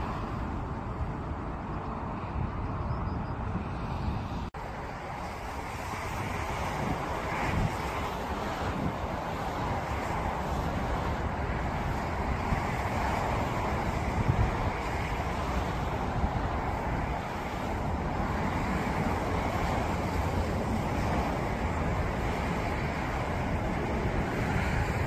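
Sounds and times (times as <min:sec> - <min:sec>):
distant jet engine roar: 0:00.0 - 0:25.0
wind buffeting microphone: 0:00.0 - 0:25.0.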